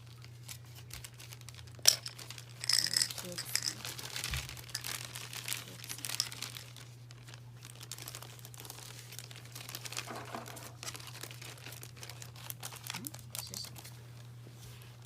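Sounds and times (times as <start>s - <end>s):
plastic crinkling: 0.0s - 14.4s
steady low hum: 0.0s - 15.0s.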